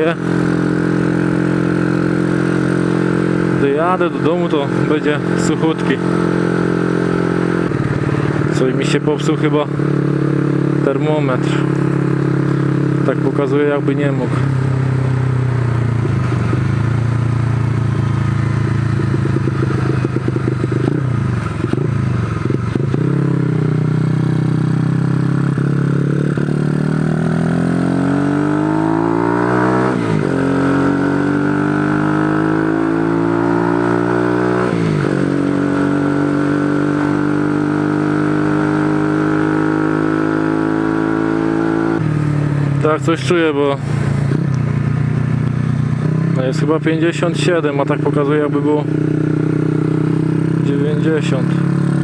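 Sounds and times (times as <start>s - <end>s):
motorcycle engine: 0.0s - 52.0s.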